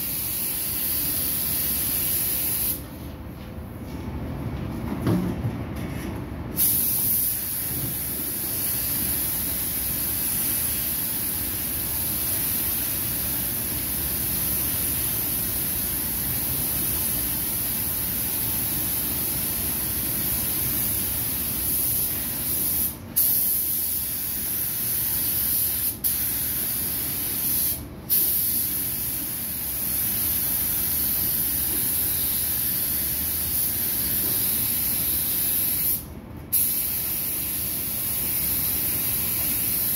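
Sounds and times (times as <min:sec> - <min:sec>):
paint spray gun hissing: 0:00.0 - 0:02.8, 0:06.6 - 0:39.9.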